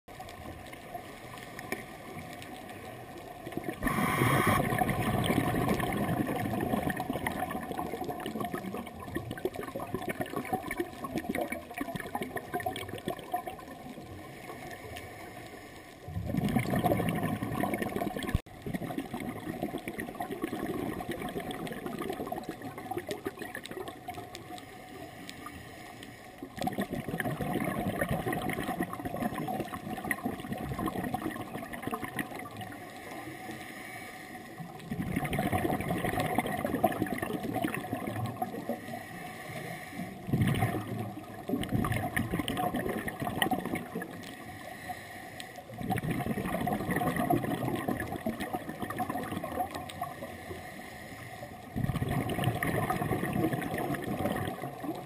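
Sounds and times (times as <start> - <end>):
underwater regulator bubbles: 0.1 - 14.8, 16.0 - 24.6, 26.5 - 33.1, 34.6 - 44.8, 45.4 - 50.6, 51.6 - 55.0
underwater water noise: 0.1 - 55.0.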